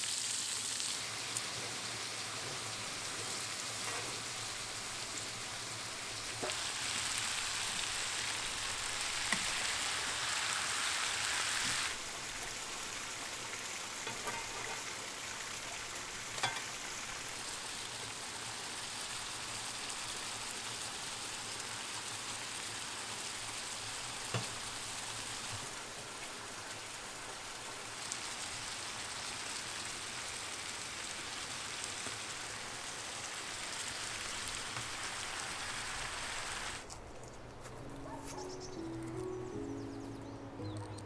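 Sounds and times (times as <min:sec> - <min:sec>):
vegetables sizzling in a pan: 0:00.0 - 0:36.9.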